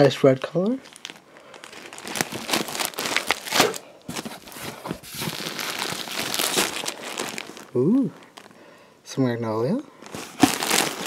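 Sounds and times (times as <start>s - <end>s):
plastic bags crinkling: 0.0s - 8.8s, 10.0s - 11.0s.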